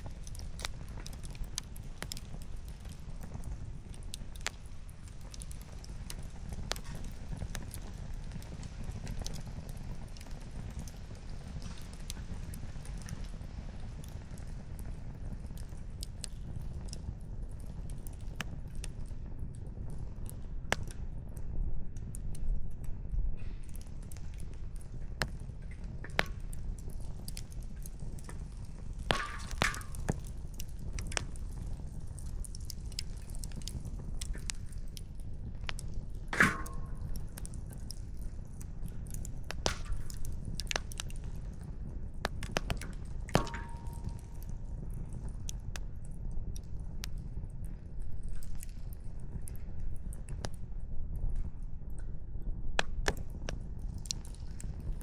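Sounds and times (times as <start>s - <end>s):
loud fire snaps: 0.0s - 52.0s, 52.7s - 55.0s
campfire crackling and popping: 0.0s - 55.0s
low fire rumble: 0.0s - 55.0s.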